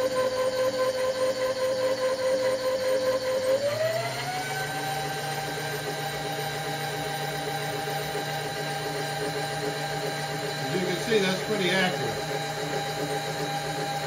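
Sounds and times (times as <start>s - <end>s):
power feed motor whining: 0.0s - 14.0s.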